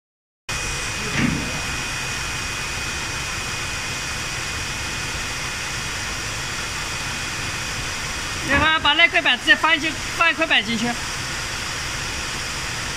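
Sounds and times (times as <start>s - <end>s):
high constant whine: 0.5s - 12.9s
sealing machine rushing and humming: 0.5s - 12.9s.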